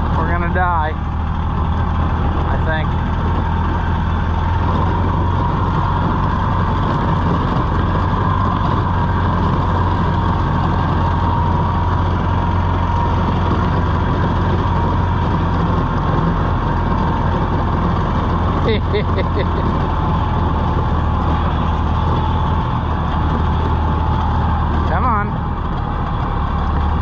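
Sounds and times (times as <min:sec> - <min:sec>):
golf cart engine droning: 0:00.0 - 0:27.0.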